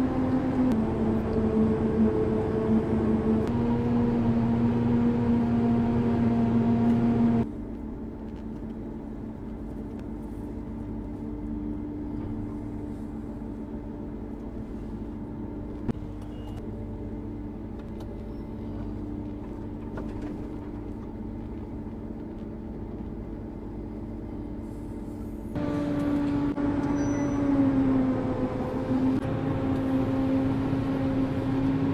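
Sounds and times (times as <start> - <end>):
combine harvester droning: 0.0 - 31.9.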